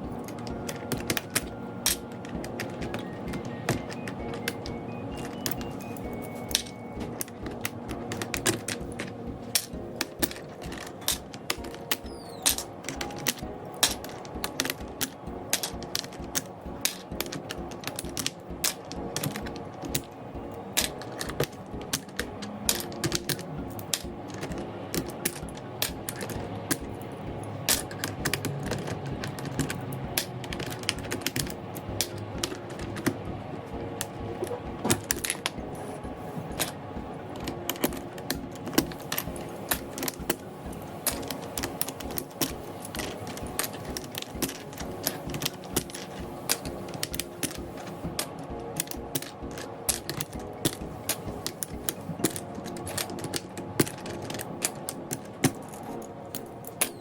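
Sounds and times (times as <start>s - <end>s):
keyboard plastic clicks and snaps: 0.0s - 57.0s
soft background music: 0.0s - 57.0s.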